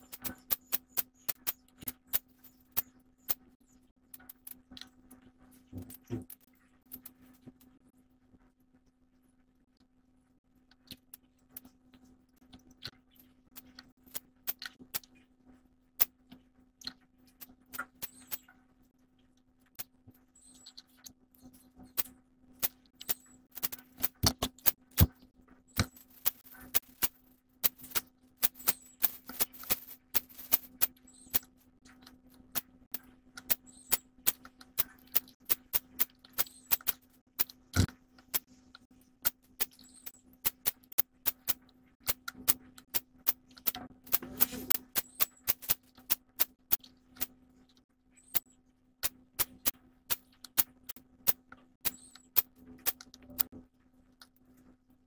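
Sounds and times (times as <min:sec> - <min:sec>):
sharp clicks and ticks: 0:00.0 - 0:07.8, 0:10.6 - 0:15.3, 0:16.0 - 0:53.6
faint low hum: 0:00.0 - 0:55.0.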